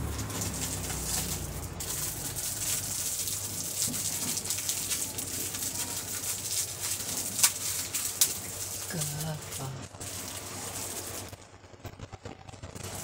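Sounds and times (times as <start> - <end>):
plastic crinkling: 0.0 - 13.0.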